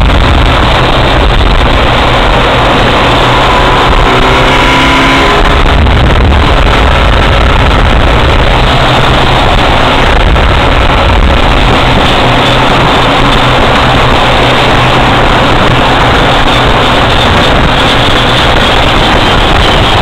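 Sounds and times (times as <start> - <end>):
car interior road noise: 0.0 - 20.0
engine tone rising: 0.0 - 20.0.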